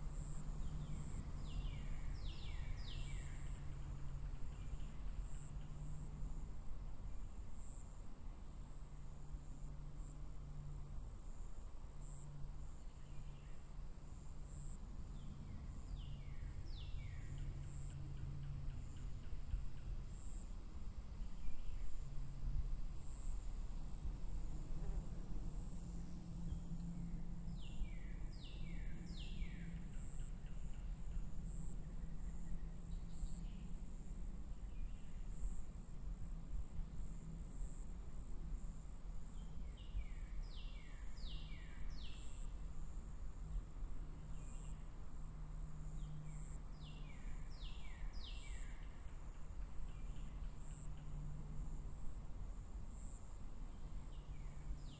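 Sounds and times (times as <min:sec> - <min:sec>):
insect stridulation: 0:00.0 - 0:54.9.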